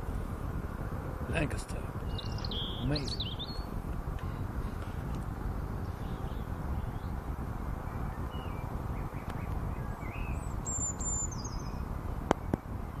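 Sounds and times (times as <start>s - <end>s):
wind rumbling on microphone: 0.0s - 13.0s
small birds chirping: 1.3s - 13.0s.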